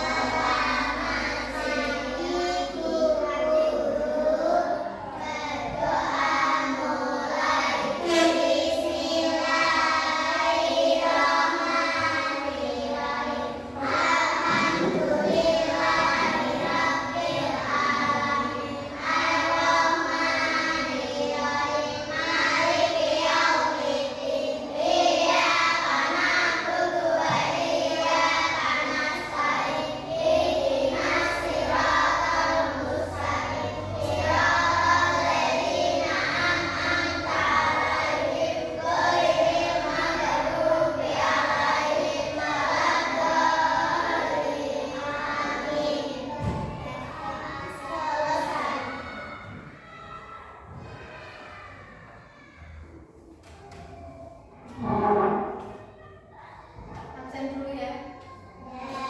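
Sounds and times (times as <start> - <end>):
children singing in unison: 0.0 - 52.9, 53.5 - 57.0, 58.5 - 59.0.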